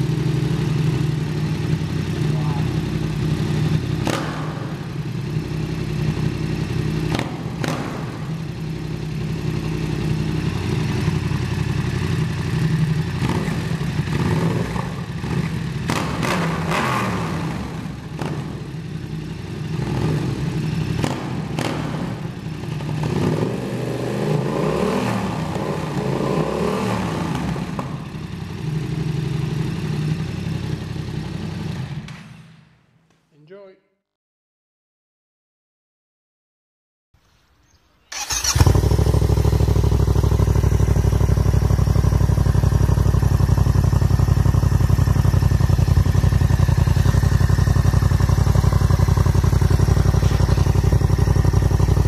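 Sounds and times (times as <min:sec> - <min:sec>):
motorcycle engine idling and revving: 0:00.0 - 0:32.8, 0:38.1 - 0:52.0.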